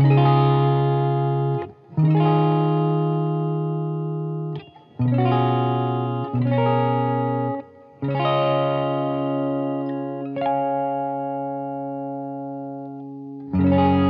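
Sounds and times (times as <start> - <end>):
electric guitar ringing chords: 0.0 - 14.0.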